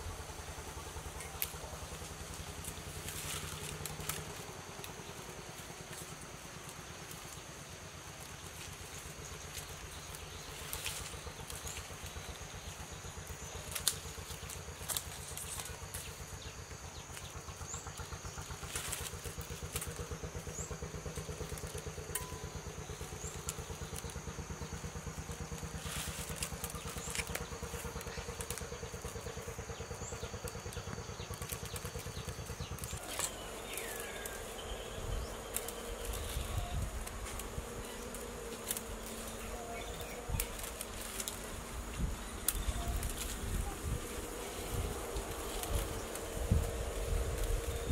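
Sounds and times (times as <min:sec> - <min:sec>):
low droning hum: 0:00.0 - 0:47.9
vine strands clicking and rustling: 0:00.0 - 0:47.9.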